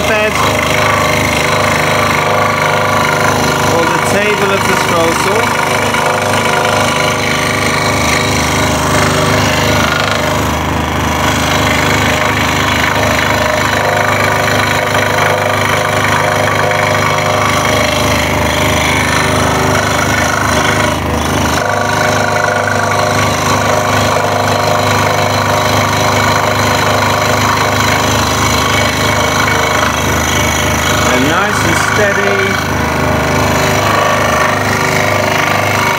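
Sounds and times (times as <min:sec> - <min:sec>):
scroll saw cutting wood: 0:00.0 - 0:35.9.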